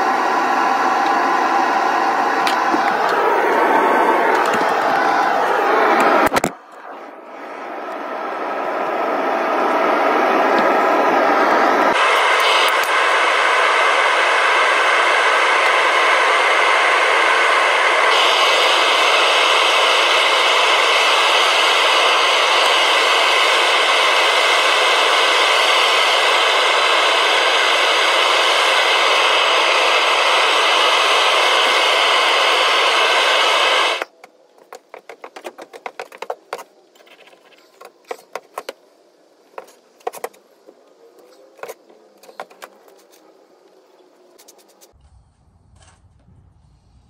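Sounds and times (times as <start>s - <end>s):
propane burner hissing: 0.0s - 45.0s.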